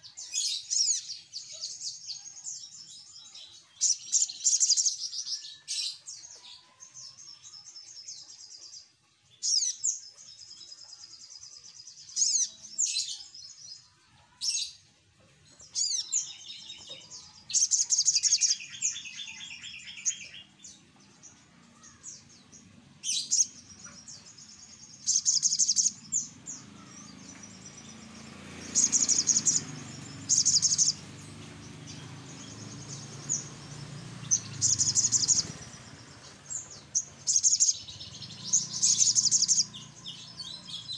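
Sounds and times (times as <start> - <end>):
sunbird chirping and trilling: 0.0 - 40.9.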